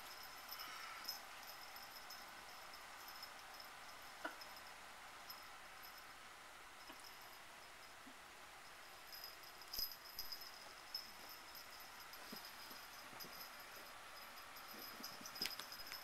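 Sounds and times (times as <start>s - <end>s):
cat collar jingling: 0.0s - 6.1s, 8.6s - 16.0s.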